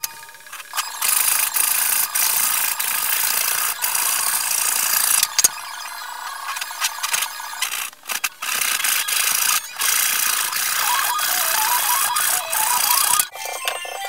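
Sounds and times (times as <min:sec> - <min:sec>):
ratcheting rasping tool noise: 0:00.0 - 0:05.5, 0:06.5 - 0:14.0.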